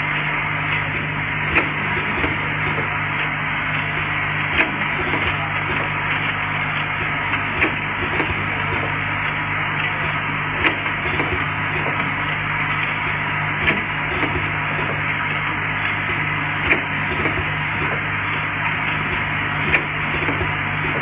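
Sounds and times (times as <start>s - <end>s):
machine humming and clattering: 0.0s - 21.0s.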